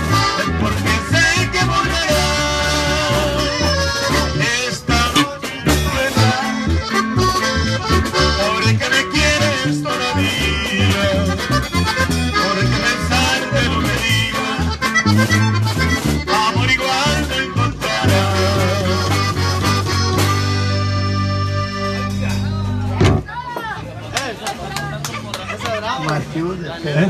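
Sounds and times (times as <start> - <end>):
accordion melody: 0.0 - 23.3
strummed acoustic guitar: 0.0 - 23.3
electric bass: 0.0 - 23.4.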